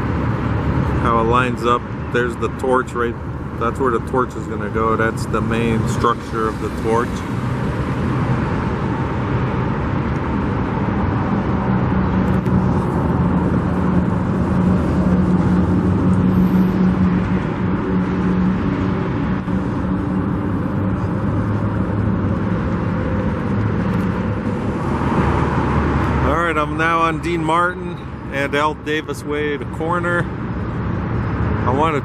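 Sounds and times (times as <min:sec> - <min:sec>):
road noise: 0:00.0 - 0:32.0
vehicle engine running: 0:00.0 - 0:32.0.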